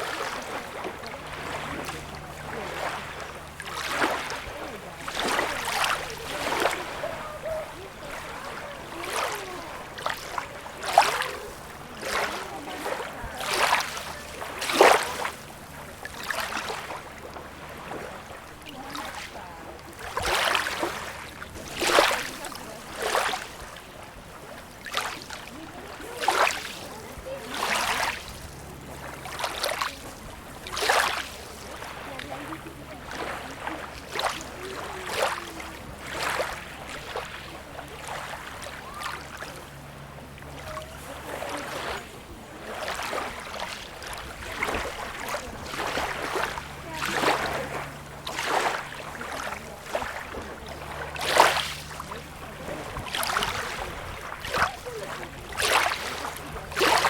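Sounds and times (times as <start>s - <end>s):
small waves splashing: 0.0s - 57.0s
steady wash of water: 0.0s - 57.0s.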